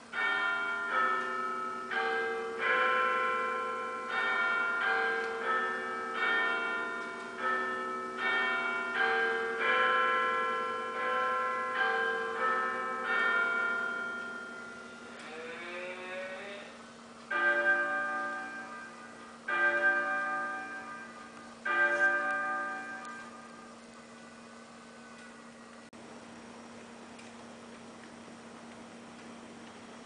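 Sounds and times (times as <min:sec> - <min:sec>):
church bells pealing: 0:00.0 - 0:16.0, 0:17.3 - 0:25.5
faint steady hum: 0:00.0 - 0:30.0.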